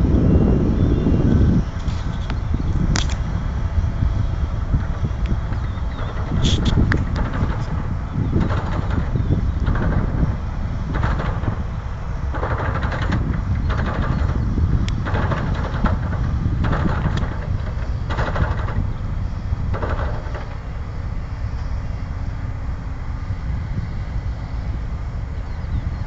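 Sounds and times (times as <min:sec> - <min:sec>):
heavy machinery low rumble: 0:00.0 - 0:26.0.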